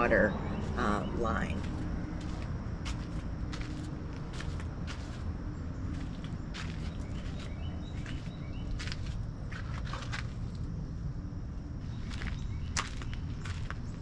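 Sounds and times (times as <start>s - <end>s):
steady low hum: 0.0s - 14.0s
crisp footsteps: 1.5s - 10.6s, 11.8s - 14.0s.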